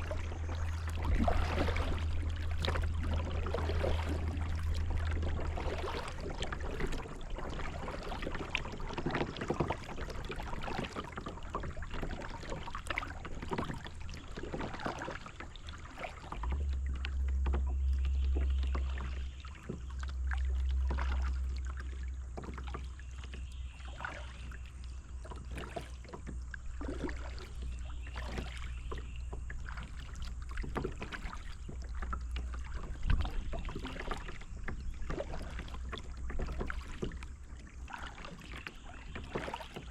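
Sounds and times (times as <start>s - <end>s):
low microphone rumble: 0.0s - 9.0s, 11.3s - 38.1s
paddle splashing in water: 0.0s - 39.9s
water dripping off paddle: 0.0s - 39.9s.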